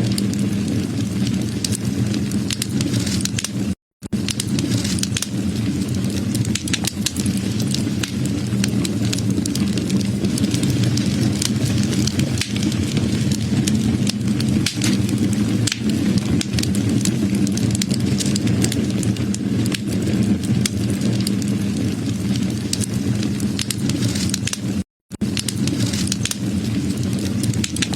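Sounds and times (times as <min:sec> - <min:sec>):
roar of flames: 0:00.0 - 0:27.9
wood crackling and popping: 0:00.0 - 0:27.9.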